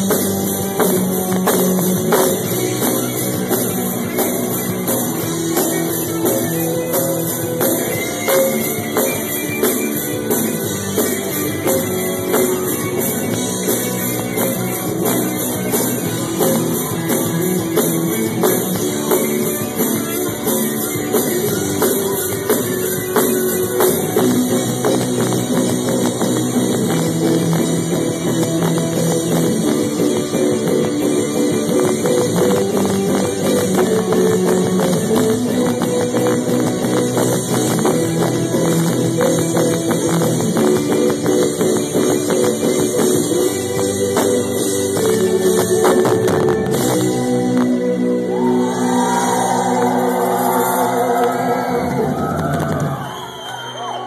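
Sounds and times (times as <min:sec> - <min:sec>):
drum kit beat: 0:00.0 - 0:53.3
electric guitars: 0:00.0 - 0:54.0
rock band playing: 0:00.0 - 0:54.0.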